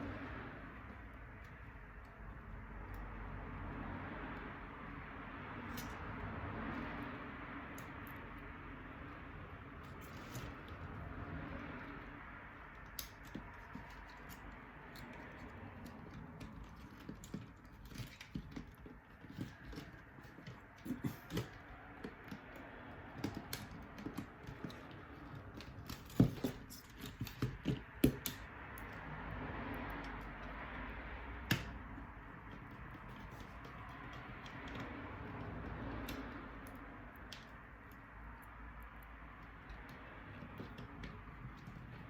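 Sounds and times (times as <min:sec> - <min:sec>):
small clicks and taps: 0:00.0 - 0:42.0.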